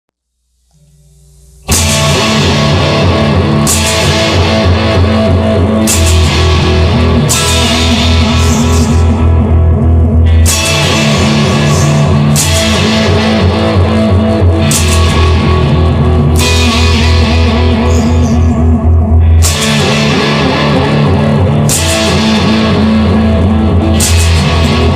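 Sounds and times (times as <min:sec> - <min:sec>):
distorted electric guitar: 0:00.3 - 0:24.9
bass guitar: 0:00.5 - 0:24.9
drum kit: 0:01.2 - 0:24.9.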